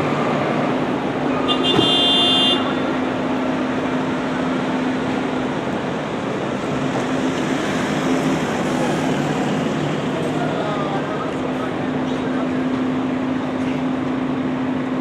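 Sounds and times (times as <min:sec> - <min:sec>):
diesel coach engine drone: 0:00.0 - 0:15.0.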